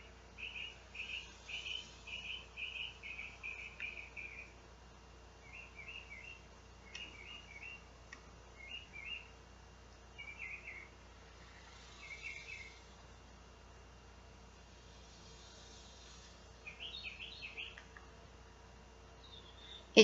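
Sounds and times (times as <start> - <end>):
songbird chirping: 0.0 - 4.7, 5.3 - 13.0, 14.7 - 20.0.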